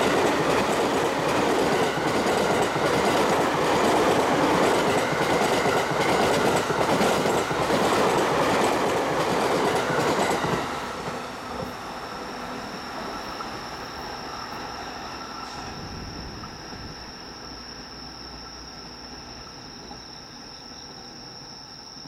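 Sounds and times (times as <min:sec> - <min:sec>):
crickets chirring: 0:00.0 - 0:22.0
train running on rails: 0:00.0 - 0:22.0.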